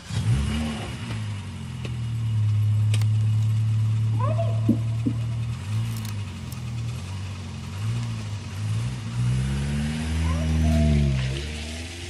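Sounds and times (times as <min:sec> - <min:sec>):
synth bass drone with pitch bends: 0:02.2 - 0:12.0.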